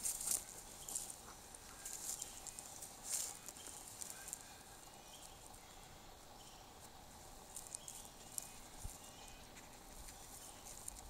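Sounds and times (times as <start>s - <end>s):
dry grass rustling and crackling: 0.0s - 11.0s.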